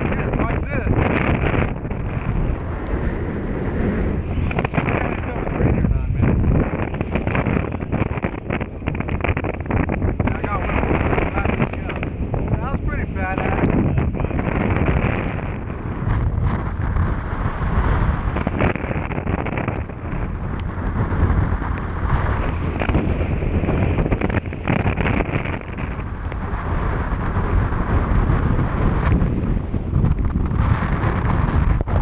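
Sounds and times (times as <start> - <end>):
outboard motor running: 0.0 - 32.0
water noise: 0.0 - 32.0
wind buffeting microphone: 0.0 - 32.0.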